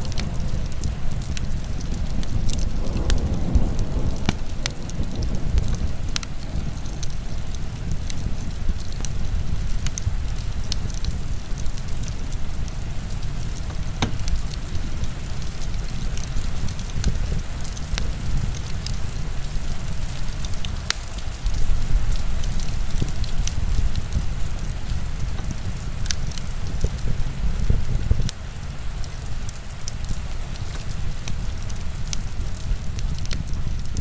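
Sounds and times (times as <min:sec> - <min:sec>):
heavy rain pouring: 0:00.0 - 0:34.0
wood fire crackling: 0:00.0 - 0:34.0.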